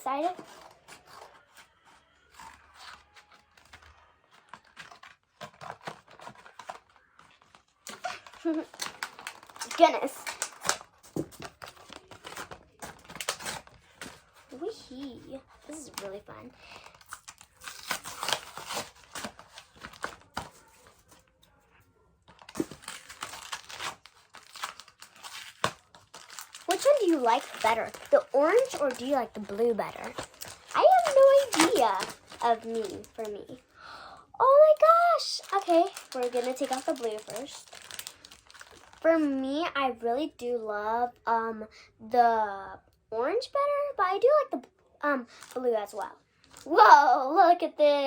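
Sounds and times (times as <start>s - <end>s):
packaging being torn and crinkled: 0.1s - 21.3s, 22.3s - 33.6s, 34.4s - 39.0s, 45.3s - 46.8s.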